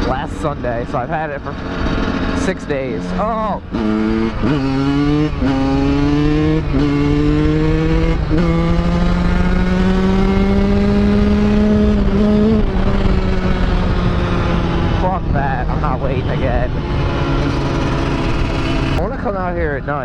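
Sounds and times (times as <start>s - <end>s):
dirt bike engine accelerating: 0.0s - 20.0s
wind noise: 3.5s - 20.0s.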